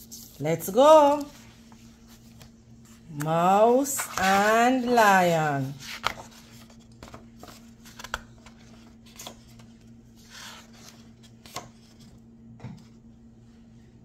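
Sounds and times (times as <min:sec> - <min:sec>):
book pages turning: 0:00.0 - 0:12.2
faint steady hum: 0:00.0 - 0:14.0.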